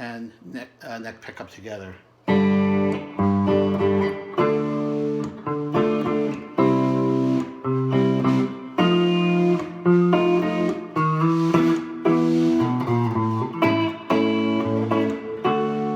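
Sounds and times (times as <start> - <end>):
clean electric guitar chords: 2.2 - 15.9.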